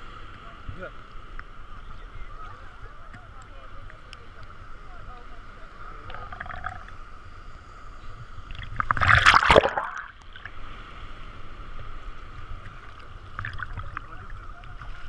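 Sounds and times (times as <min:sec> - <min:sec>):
wave splashing: 0:00.0 - 0:15.0.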